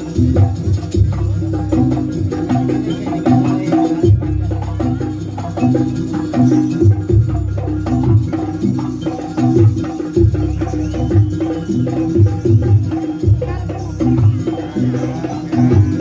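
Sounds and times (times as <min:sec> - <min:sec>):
gamelan drums and metal percussion: 0:00.0 - 0:16.0.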